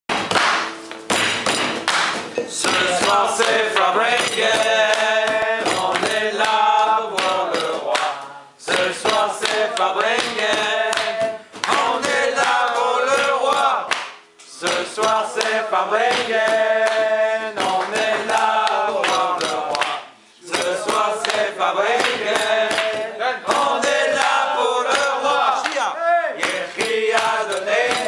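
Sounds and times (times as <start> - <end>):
clapping along: 0.1 - 28.0
men singing together: 2.5 - 28.0.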